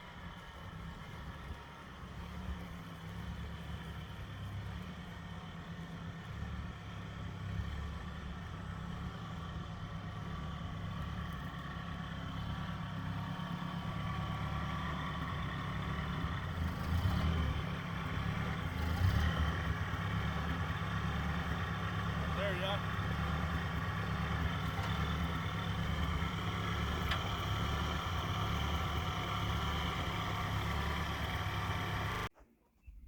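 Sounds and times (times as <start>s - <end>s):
engine running at low speed: 0.0s - 32.3s.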